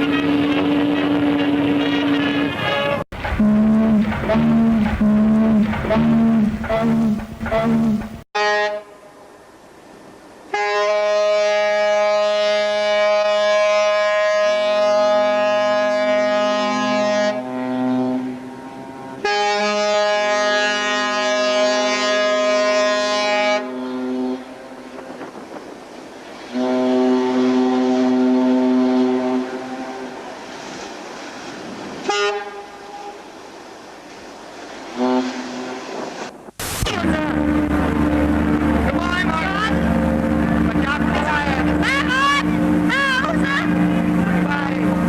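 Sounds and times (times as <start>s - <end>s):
ship's horn blasts: 0.0s - 9.6s, 10.4s - 25.3s, 26.5s - 30.6s, 32.0s - 33.3s, 34.9s - 36.2s, 36.8s - 45.0s.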